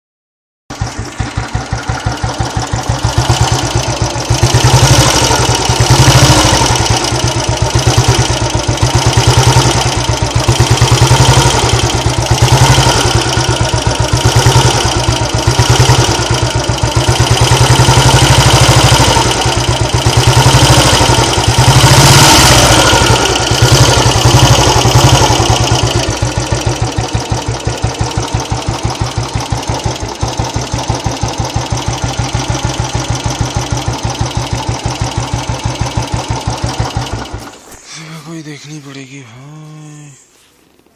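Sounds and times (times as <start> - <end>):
motorcycle engine revving: 0.7 - 37.8.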